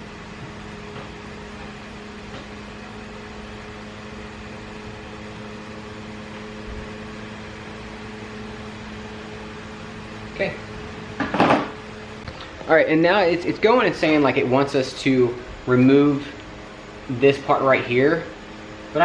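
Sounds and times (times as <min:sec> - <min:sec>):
electric hum and hiss: 0:00.0 - 0:19.0.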